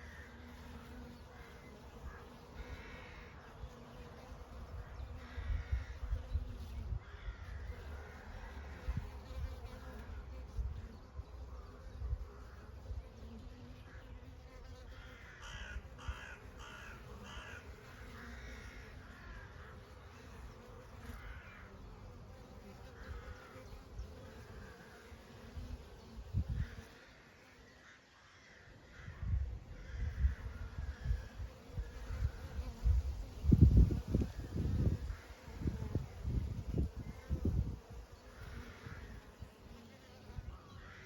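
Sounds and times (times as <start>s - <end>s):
bees buzzing: 0.0s - 27.2s, 30.4s - 41.0s.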